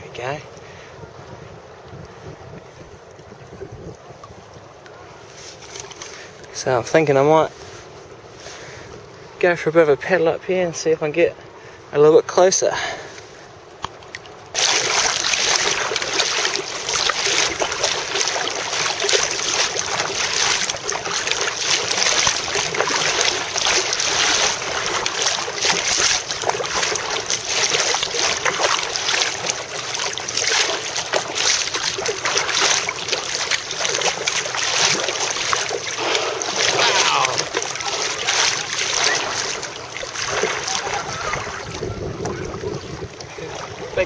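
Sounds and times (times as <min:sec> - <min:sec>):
water splashing around paddled kayak: 0:00.0 - 0:44.0.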